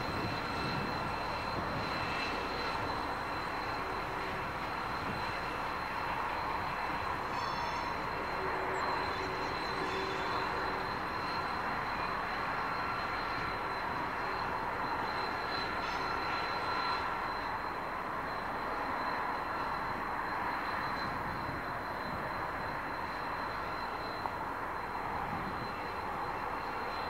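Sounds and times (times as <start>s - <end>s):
locomotive engines rumbling: 0.0s - 27.0s.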